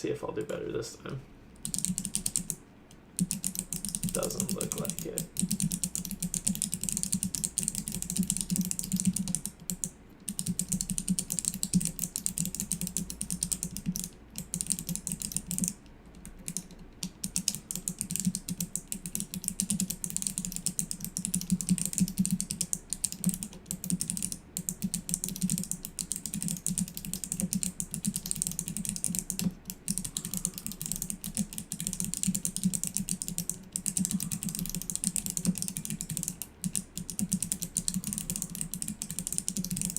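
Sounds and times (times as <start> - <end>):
mechanical keyboard typing: 1.6 - 2.6, 3.2 - 39.9.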